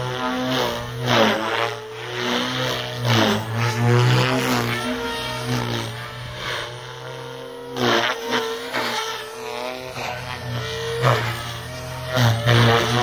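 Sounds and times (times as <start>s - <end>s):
rc helicopter rotor hum: 0.0s - 13.0s
rotor blades whooshing: 0.0s - 13.0s.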